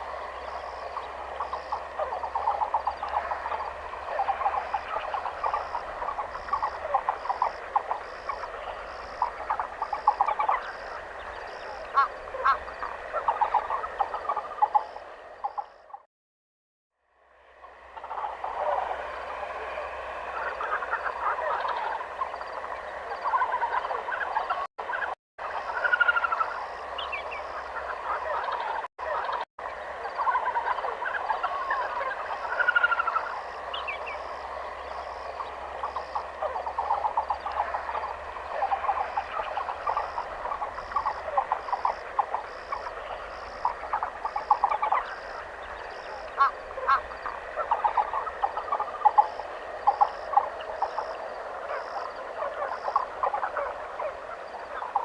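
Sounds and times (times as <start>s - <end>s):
many birds chirping: 0.0s - 16.1s, 17.9s - 55.0s.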